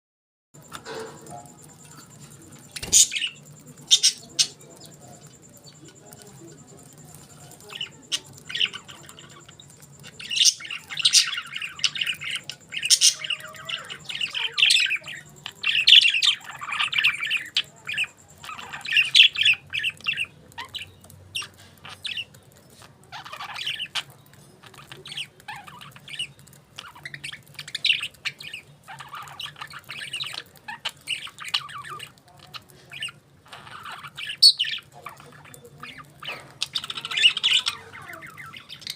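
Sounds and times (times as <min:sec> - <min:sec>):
budgerigars chirping and chattering: 0:00.6 - 0:38.9.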